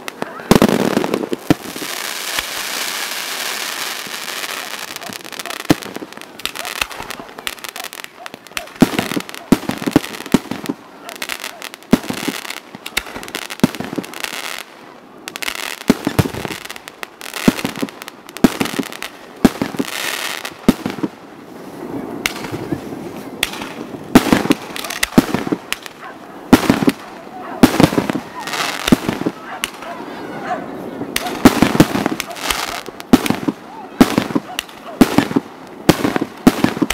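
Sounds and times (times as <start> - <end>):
fireworks bursting with sharp bangs: 0.0 - 36.9
fireworks crackling: 0.0 - 36.9.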